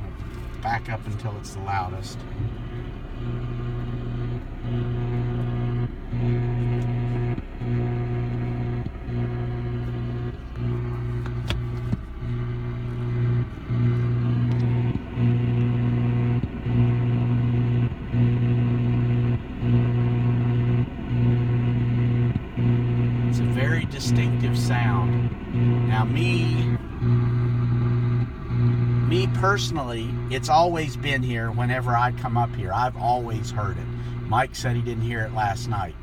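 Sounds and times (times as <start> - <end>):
radio interference buzz: 0.6 - 36.0.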